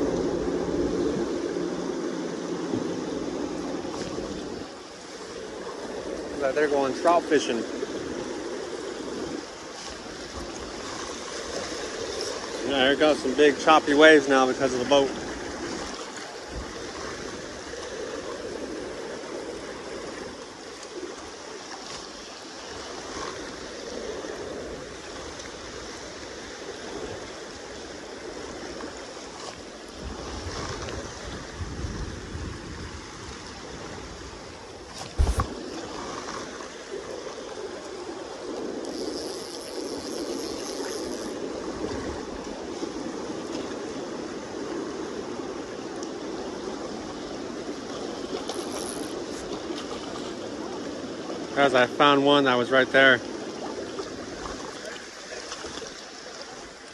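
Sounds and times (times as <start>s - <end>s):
river water rushing: 0.0s - 56.9s
waves lapping against bank: 0.0s - 56.9s.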